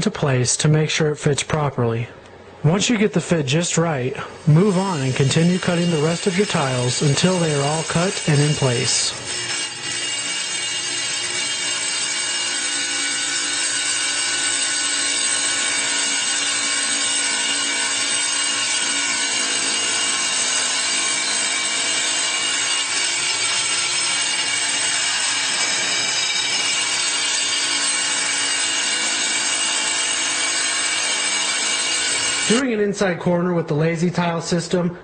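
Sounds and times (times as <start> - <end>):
power saw cutting tile: 3.9 - 32.6.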